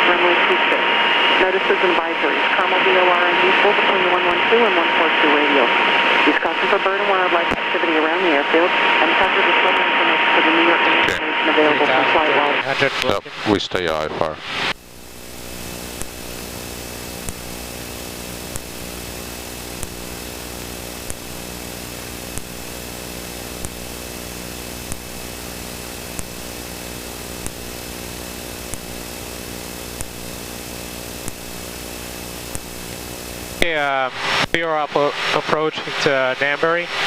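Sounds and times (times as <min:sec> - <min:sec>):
jet engine cockpit drone: 0:00.0 - 0:37.0.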